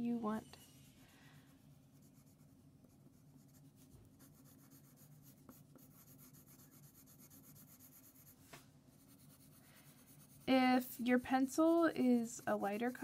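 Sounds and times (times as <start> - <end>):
pencil scratching on paper: 0.2 - 13.0.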